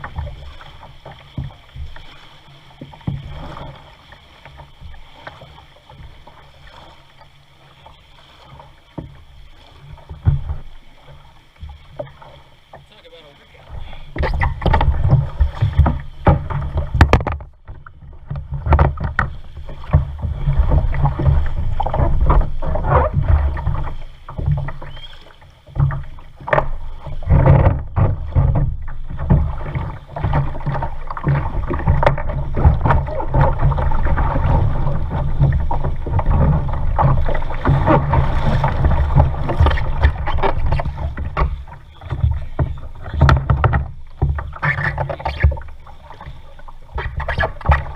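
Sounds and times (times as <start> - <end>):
paddle strokes splashing: 0.0 - 47.9
water sloshing against hull: 0.0 - 47.9.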